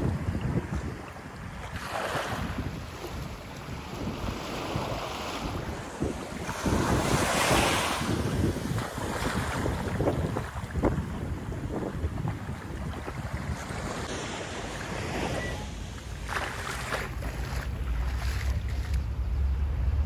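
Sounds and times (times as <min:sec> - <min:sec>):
waves washing up beach: 0:00.0 - 0:20.0
wind buffeting microphone: 0:00.0 - 0:20.0.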